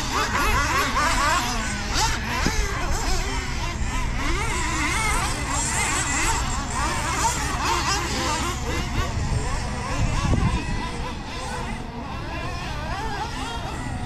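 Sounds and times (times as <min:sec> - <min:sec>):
rc truck engines whining: 0:00.0 - 0:14.0.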